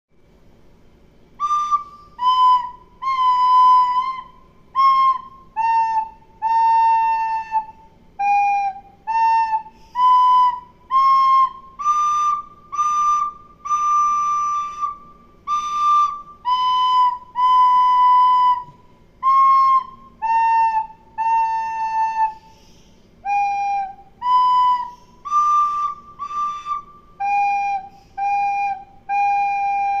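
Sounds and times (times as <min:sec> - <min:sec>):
bamboo flute slow melody: 0:01.4 - 0:30.0.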